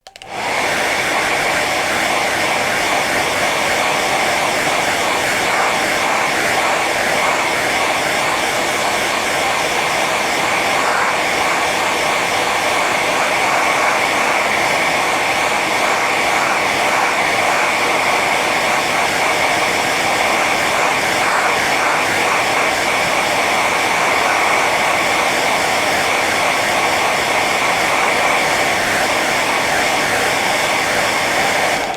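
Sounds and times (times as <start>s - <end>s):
hair dryer running: 0.0s - 31.9s.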